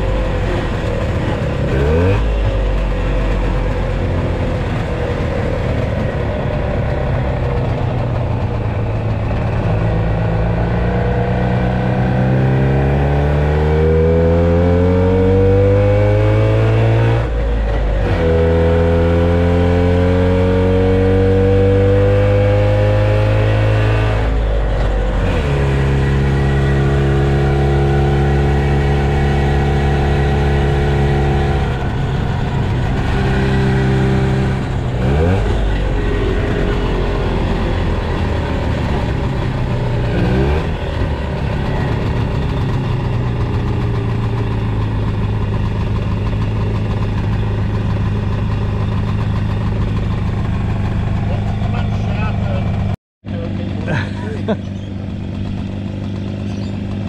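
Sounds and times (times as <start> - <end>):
two-stroke engine pulling through gears: 0.0 - 57.0.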